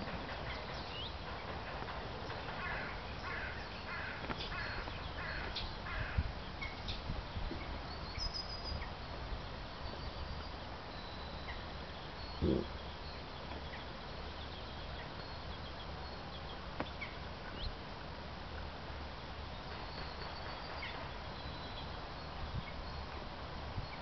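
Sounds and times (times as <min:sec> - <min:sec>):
distant birds chirping: 0:00.0 - 0:24.0.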